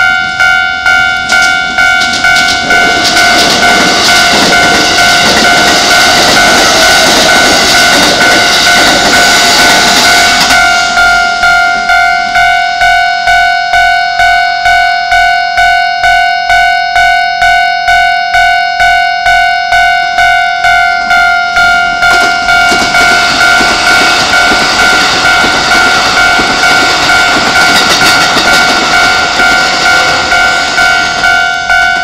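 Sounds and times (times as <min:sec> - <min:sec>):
train rumbling past: 0:00.0 - 0:13.9, 0:20.2 - 0:32.0
level crossing warning bell: 0:00.0 - 0:32.0.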